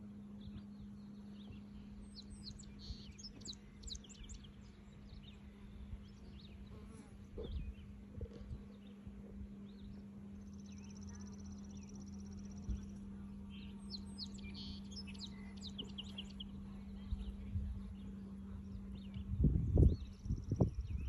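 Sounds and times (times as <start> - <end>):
birds chirping: 0.0 - 21.0
steady low hum: 0.0 - 21.0.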